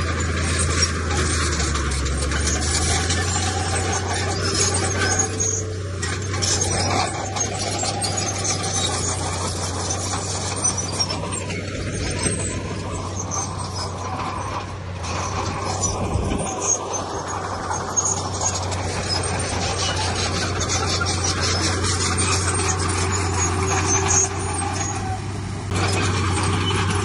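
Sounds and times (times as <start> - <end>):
diesel engine humming: 0.0 - 27.0
metallic clatter and rattle: 0.0 - 27.0.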